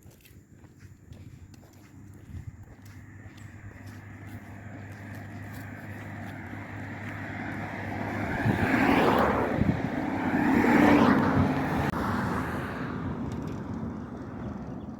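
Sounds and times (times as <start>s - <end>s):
vehicles passing: 0.0s - 14.9s.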